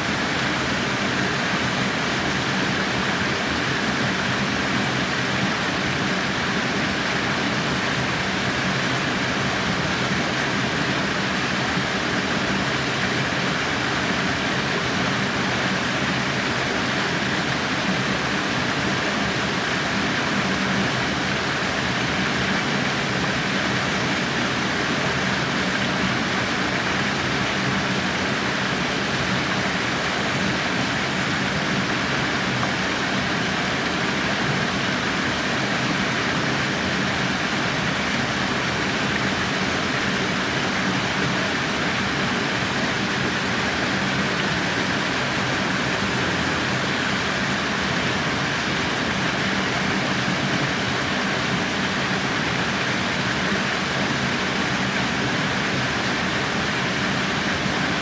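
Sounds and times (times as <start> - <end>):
waterfall splashing into pool: 0.0 - 58.0.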